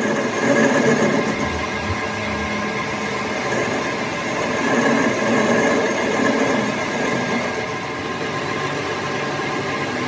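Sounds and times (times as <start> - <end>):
mechanical running rumble: 0.0 - 10.0.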